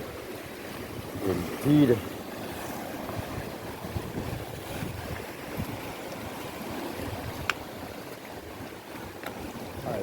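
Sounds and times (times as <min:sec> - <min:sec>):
sea surf washing in: 0:00.0 - 0:10.0
wind buffeting microphone: 0:00.0 - 0:10.0.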